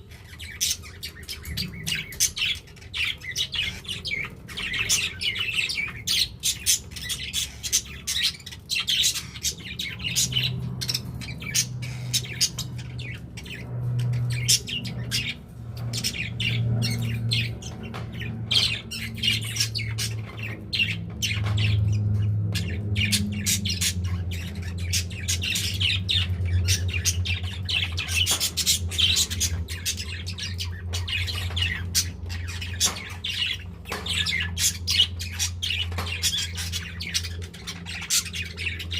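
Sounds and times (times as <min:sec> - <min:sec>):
budgerigars chattering and squawking: 0:00.0 - 0:38.9
low steady hum: 0:00.0 - 0:38.9.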